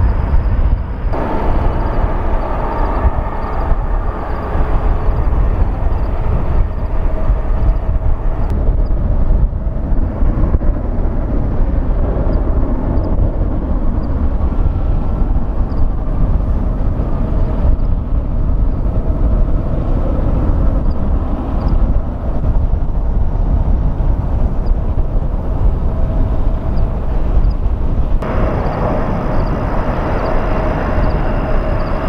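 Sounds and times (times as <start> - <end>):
faint engine whine: 0.0 - 32.0
jet engines rumbling: 0.0 - 32.0.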